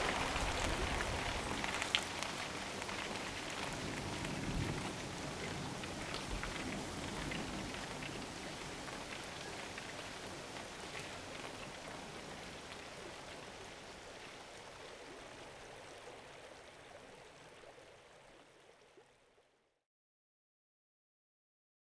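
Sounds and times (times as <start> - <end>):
rushing water: 0.0 - 19.4
small drip-like ticks: 0.1 - 19.4.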